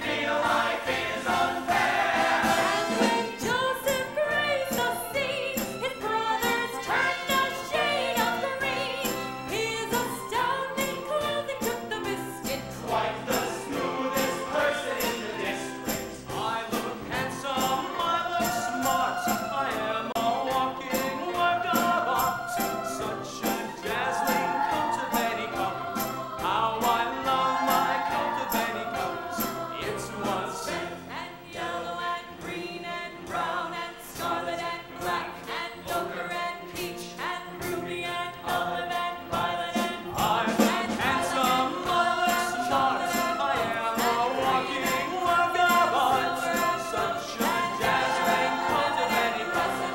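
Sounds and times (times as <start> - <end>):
pit band playing: 0.0 - 31.0, 39.8 - 49.9
cast singing together: 0.0 - 49.9.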